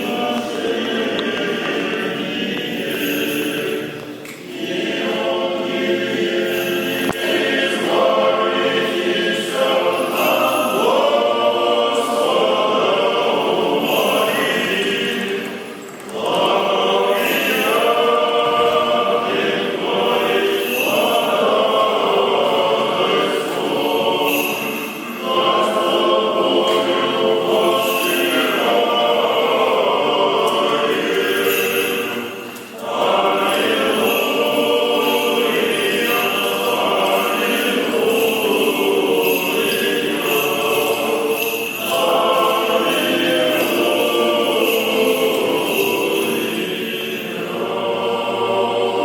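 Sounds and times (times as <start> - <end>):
choir singing liturgical chant: 0.0 - 49.0.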